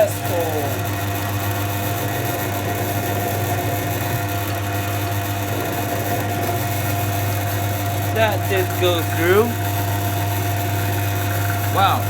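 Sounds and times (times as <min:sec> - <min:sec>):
drill press motor humming: 0:00.0 - 0:12.0.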